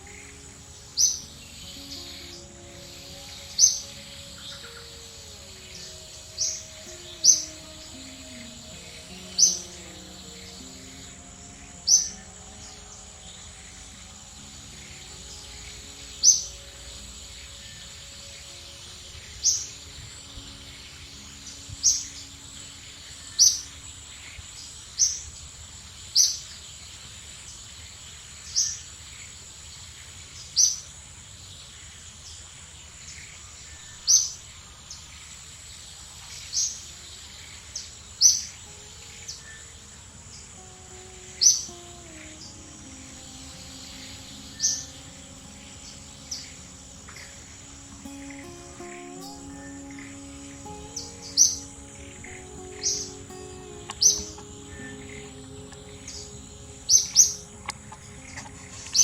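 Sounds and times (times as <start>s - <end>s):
high-pitched insect drone: 0.0s - 25.2s, 36.6s - 59.0s
bird chirping: 0.0s - 59.0s.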